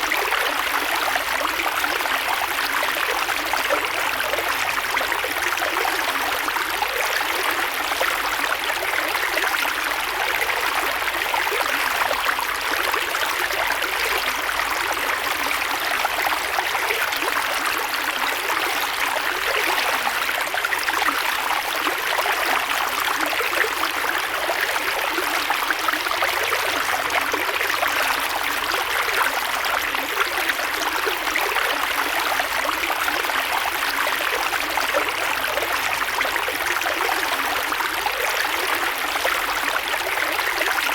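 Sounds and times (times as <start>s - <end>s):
creek water flowing: 0.0s - 40.9s.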